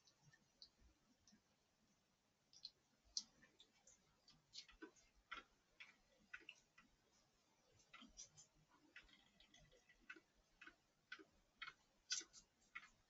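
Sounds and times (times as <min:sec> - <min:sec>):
faint clicks and taps: 0:00.0 - 0:01.5, 0:02.5 - 0:13.0.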